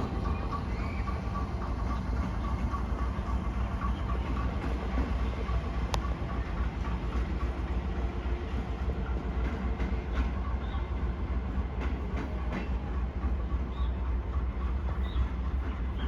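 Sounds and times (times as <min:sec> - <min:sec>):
train rumbling on tracks: 0:00.0 - 0:16.0.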